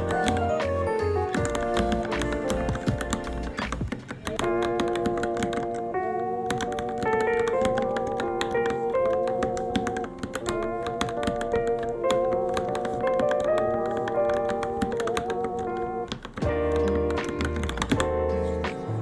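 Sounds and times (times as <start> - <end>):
background music with melody: 0.0 - 19.0
mechanical keyboard typing: 0.0 - 19.0.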